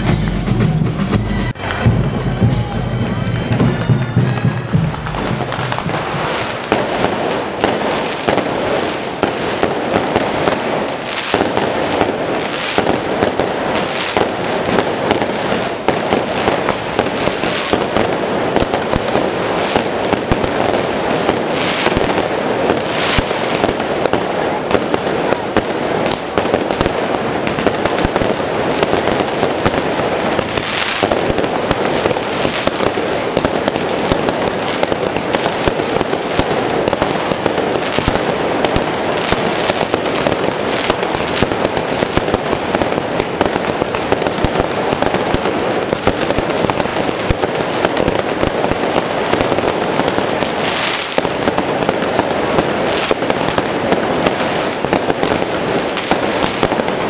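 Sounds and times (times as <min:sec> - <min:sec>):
firecrackers crackling: 0:00.0 - 0:57.0
fireworks bursts: 0:00.0 - 0:57.0.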